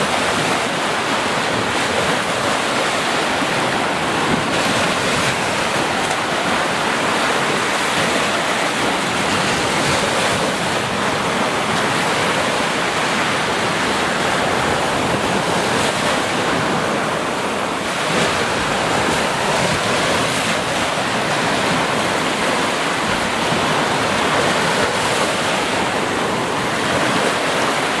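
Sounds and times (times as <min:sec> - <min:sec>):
sea waves washing: 0:00.0 - 0:28.0.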